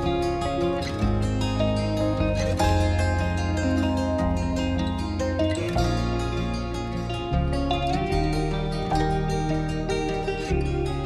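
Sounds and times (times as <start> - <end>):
held bass notes: 0.0 - 11.0
plucked-string melody: 0.0 - 11.0.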